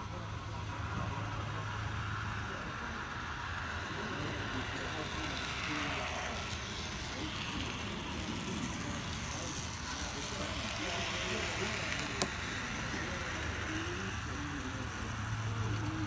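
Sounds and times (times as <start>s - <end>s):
indistinct voices: 0.0s - 16.0s.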